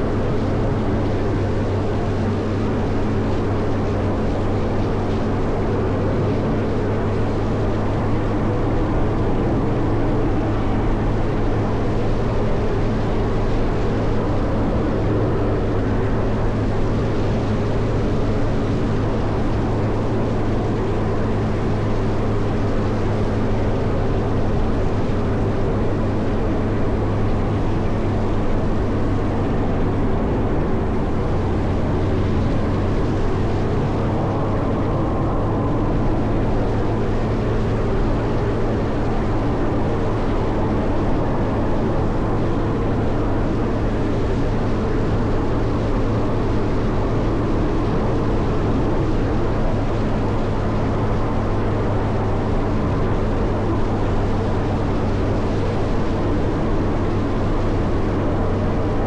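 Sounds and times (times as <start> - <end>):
diesel engine running under load: 0.0 - 59.0.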